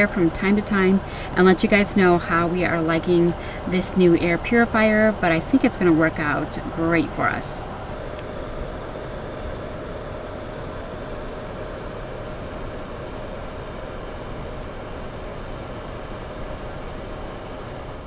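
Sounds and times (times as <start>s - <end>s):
air purifier fan whoosh: 0.0s - 18.0s
faint whine: 0.0s - 18.0s.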